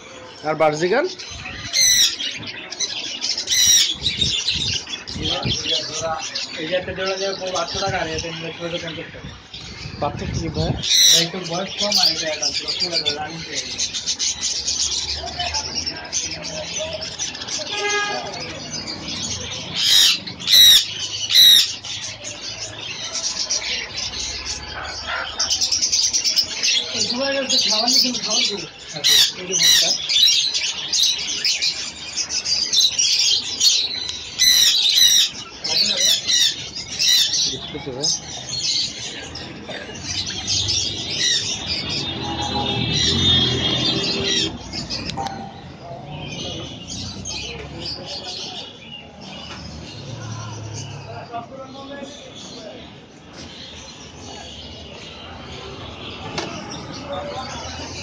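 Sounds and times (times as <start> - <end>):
conures squawking: 0.0 - 58.0
small birds chattering: 0.0 - 58.0.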